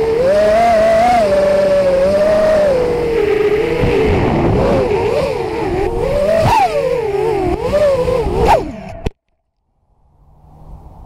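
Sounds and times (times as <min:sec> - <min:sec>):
drone motors whining: 0:00.0 - 0:09.2.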